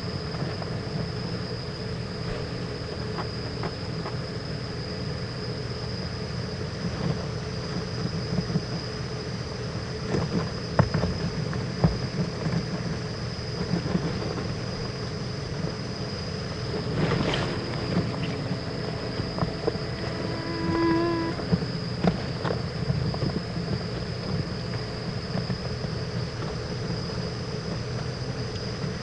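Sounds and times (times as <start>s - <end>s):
background hum with high whine: 0.0s - 29.0s.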